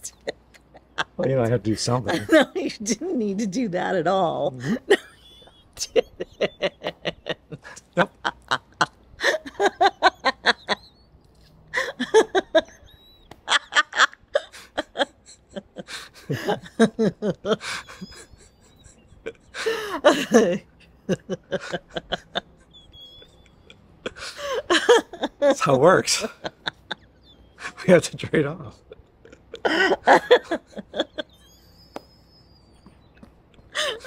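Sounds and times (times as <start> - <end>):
man laughing: 0.0 - 3.0, 4.6 - 10.9, 11.7 - 31.6, 33.8 - 34.0
woman laughing: 0.0 - 3.2, 4.3 - 11.0, 11.7 - 27.8, 28.8 - 34.0.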